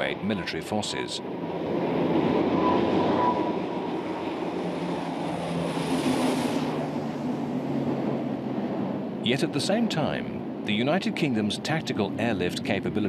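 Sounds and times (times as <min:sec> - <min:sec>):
aircraft engines droning overhead: 0:00.0 - 0:13.0.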